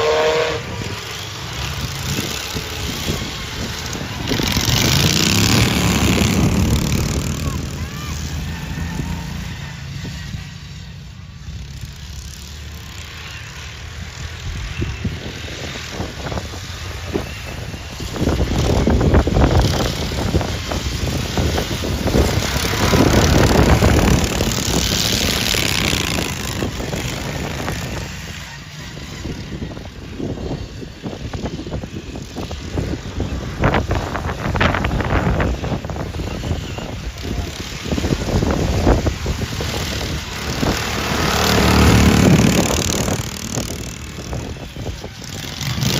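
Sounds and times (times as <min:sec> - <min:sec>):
racing lawnmower engines: 0:00.0 - 0:45.9.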